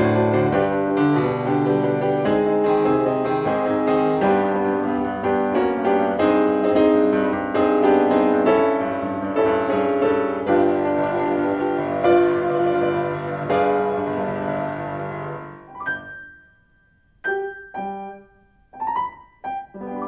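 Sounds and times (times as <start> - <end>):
solo piano chords and melody: 0.0 - 20.0.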